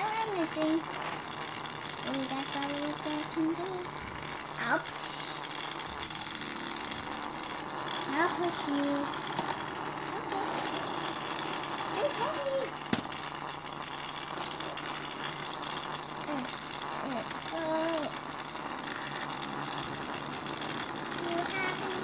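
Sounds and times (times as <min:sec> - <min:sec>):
toy motors whirring: 0:00.0 - 0:22.0.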